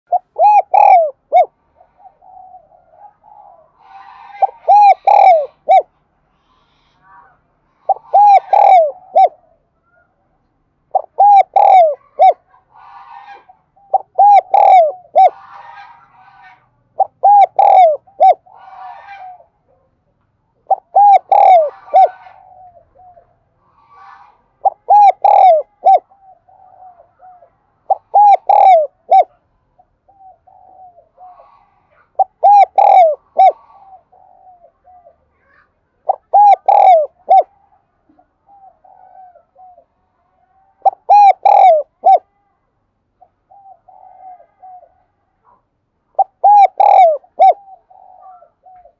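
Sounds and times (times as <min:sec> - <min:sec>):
dove cooing: 0:00.1 - 0:05.9, 0:07.9 - 0:10.0, 0:10.9 - 0:19.9, 0:20.6 - 0:24.0, 0:24.6 - 0:42.4, 0:43.2 - 0:45.2, 0:46.1 - 0:48.9.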